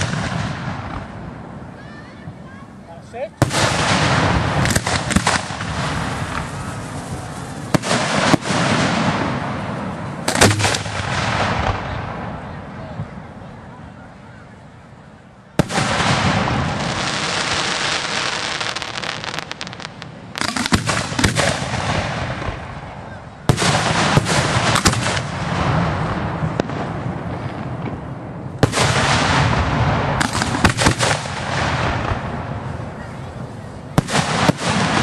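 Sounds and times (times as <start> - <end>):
fireworks crackling pops: 0.0 - 13.4, 15.5 - 35.0
fireworks bangs: 0.0 - 14.9, 15.5 - 35.0.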